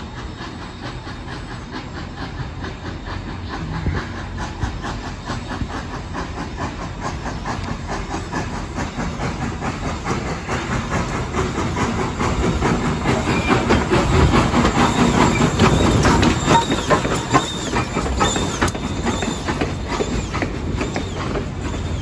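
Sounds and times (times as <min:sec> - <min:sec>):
hissing steam: 0:00.0 - 0:22.0
steam locomotive chuffing: 0:00.0 - 0:22.0.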